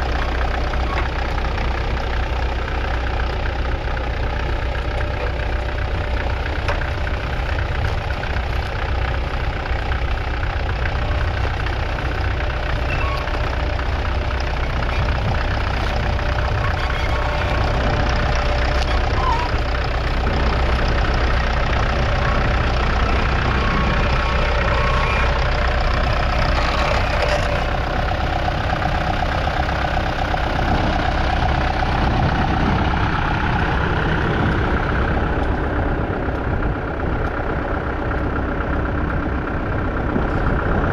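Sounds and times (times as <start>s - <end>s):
tractor diesel engine rumbling: 0.0s - 40.9s.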